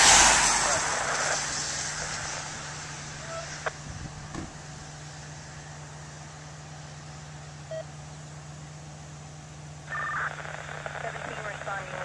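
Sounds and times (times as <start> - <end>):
pickup engine idling: 0.6 - 10.9.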